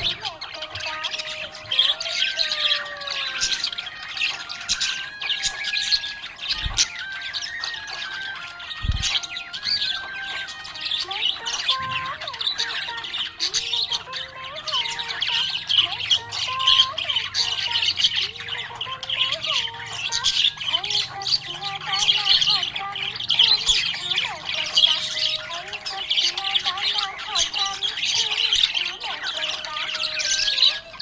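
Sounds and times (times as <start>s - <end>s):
background music: 0.0s - 31.0s
budgerigars chirping and chattering: 0.0s - 31.0s.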